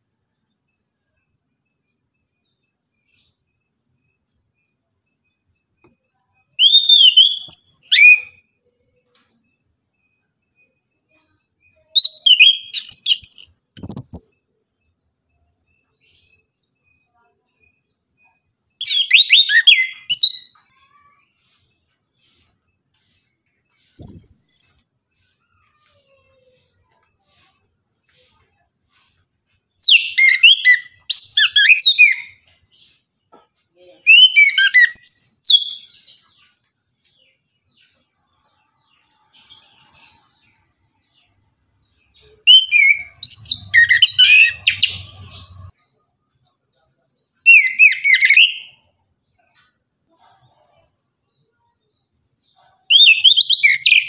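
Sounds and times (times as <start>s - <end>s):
faint scratchy twitter: 0.0s - 54.0s.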